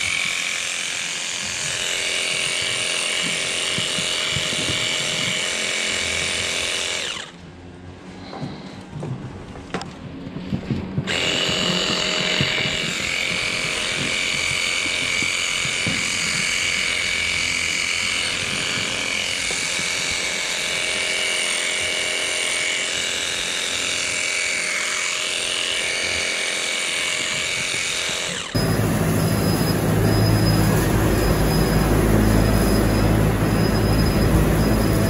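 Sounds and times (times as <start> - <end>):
electric clipper motor whine: 0.0 - 7.4, 11.0 - 35.0.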